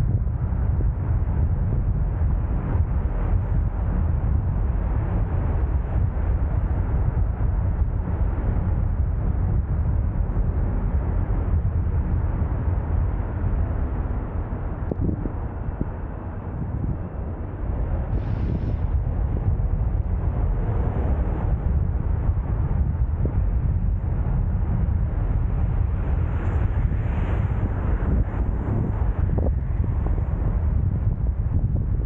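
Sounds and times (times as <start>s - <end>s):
road noise: 0.0s - 32.0s
wind buffeting microphone: 0.0s - 32.0s.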